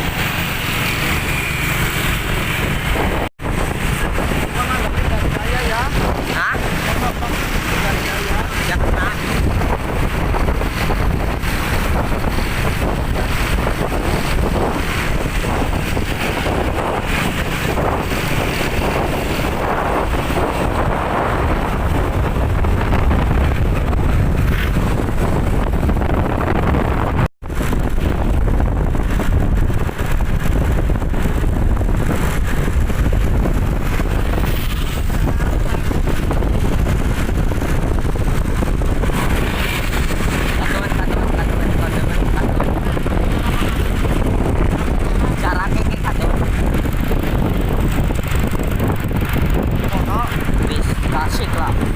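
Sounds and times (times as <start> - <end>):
vehicle rumble at road speed: 0.0 - 51.9
wind buffeting microphone: 0.0 - 51.9.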